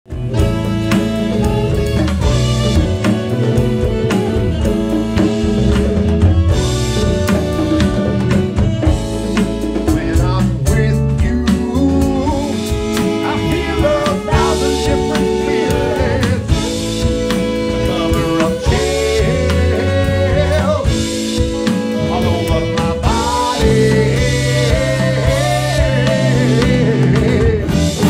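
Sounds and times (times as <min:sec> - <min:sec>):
electric bass: 0:00.0 - 0:28.0
electronic drum kit beat: 0:00.0 - 0:28.0
electric guitar: 0:00.1 - 0:28.0
saxophones: 0:00.1 - 0:28.0.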